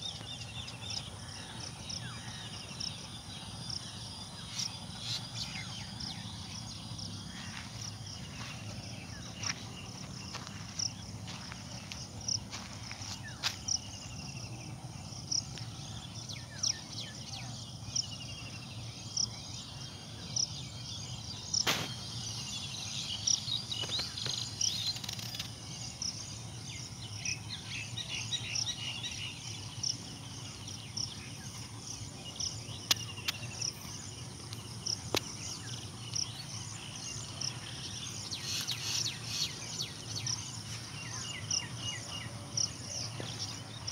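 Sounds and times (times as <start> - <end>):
birds chirping: 0.0 - 43.9
insect chirping: 0.0 - 43.9.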